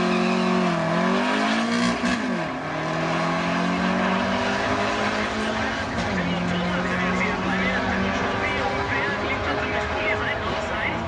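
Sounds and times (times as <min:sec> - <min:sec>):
car engines revving in drag race: 0:00.0 - 0:11.0.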